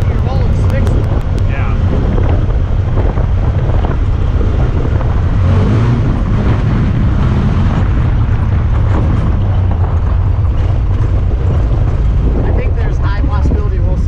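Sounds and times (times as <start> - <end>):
engine droning: 0.0 - 14.0
vehicle and terrain noise: 0.0 - 14.0.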